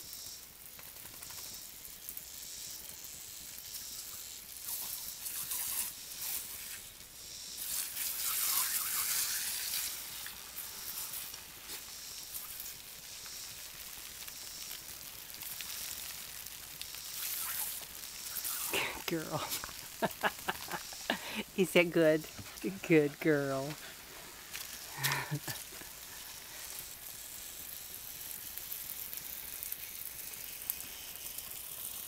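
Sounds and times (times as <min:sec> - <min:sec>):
sprinkler water hissing on grass: 0:00.0 - 0:32.0.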